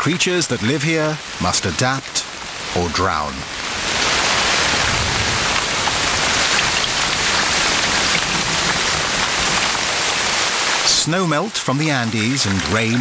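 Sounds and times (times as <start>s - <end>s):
heavy rain on foliage: 0.0s - 13.0s.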